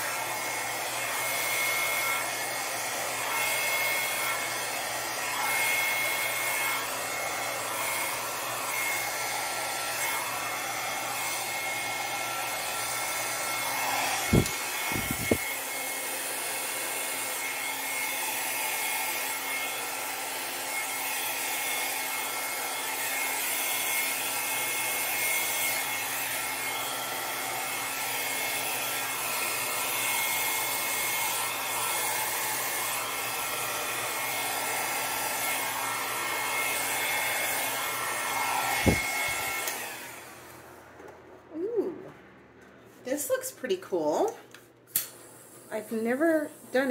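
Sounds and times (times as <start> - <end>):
hair dryer blowing: 0.0 - 41.9, 43.0 - 46.9.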